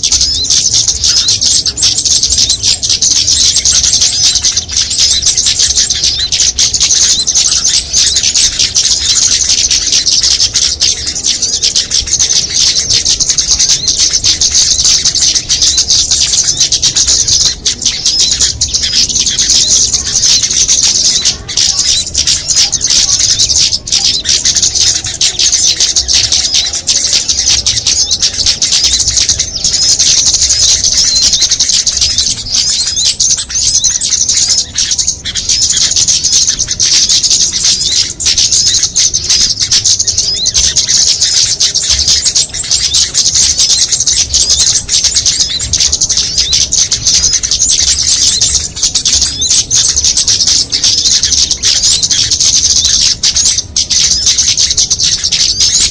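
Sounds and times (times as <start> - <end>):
small songbirds chirping: 0.0 - 55.9.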